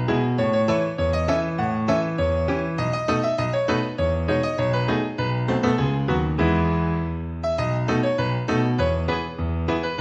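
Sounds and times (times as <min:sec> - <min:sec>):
piano notes: 0:00.0 - 0:10.0.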